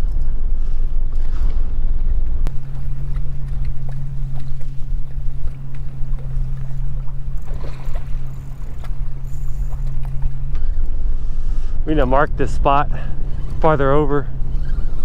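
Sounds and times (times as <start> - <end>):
wind and water rumble: 0.0 - 15.0
boat motor humming: 1.0 - 15.0.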